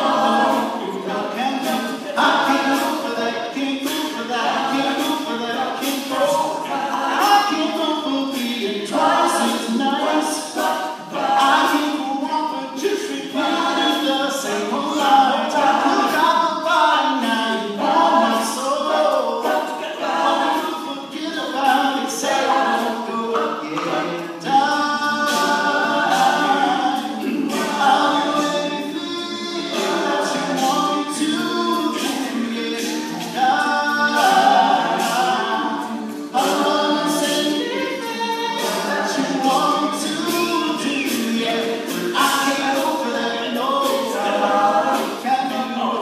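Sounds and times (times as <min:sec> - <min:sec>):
male a cappella group singing: 0:00.0 - 0:46.0.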